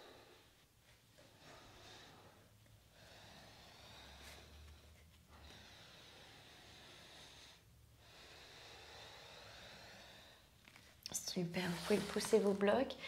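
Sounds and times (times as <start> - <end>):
slow breathing through nose: 0.0 - 11.0.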